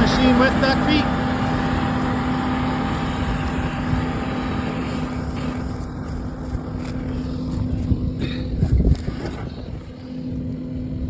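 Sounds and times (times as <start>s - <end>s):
combine harvester engine hum: 0.0s - 11.0s.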